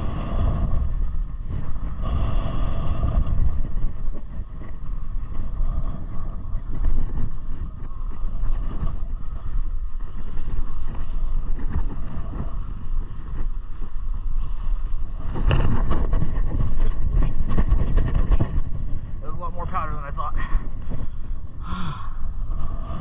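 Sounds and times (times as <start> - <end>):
snowblades scraping over snow: 0.0 - 19.2
wind buffeting microphone: 0.0 - 23.0.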